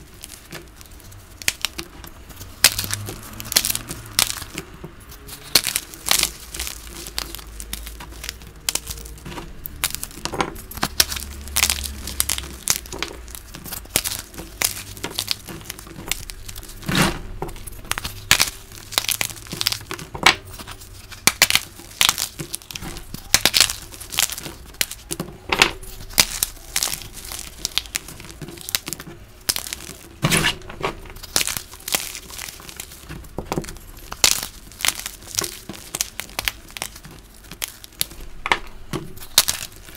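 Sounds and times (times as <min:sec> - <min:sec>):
chalk cracking and crunching: 0:00.0 - 0:39.9
chalk crumbs pattering: 0:00.0 - 0:39.9.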